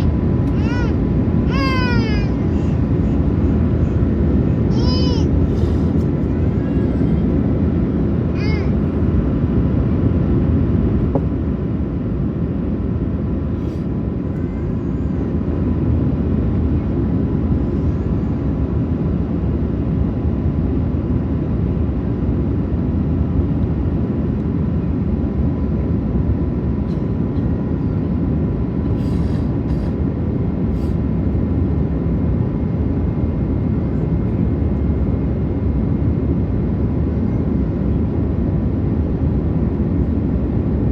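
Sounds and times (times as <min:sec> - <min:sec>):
airplane cabin engine roar: 0:00.0 - 0:40.9.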